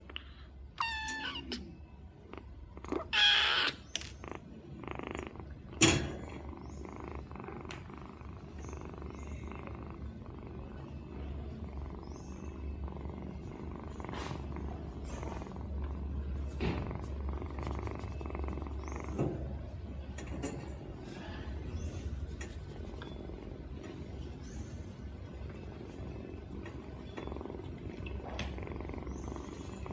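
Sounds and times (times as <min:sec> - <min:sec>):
kittens purring: 0:00.0 - 0:29.9.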